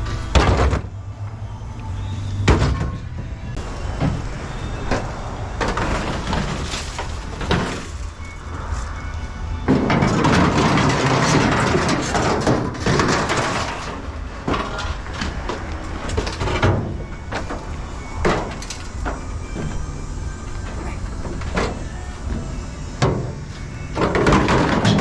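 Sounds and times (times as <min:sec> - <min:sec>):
sheet metal clattering and banging: 0:02.4 - 0:09.0, 0:09.6 - 0:25.0.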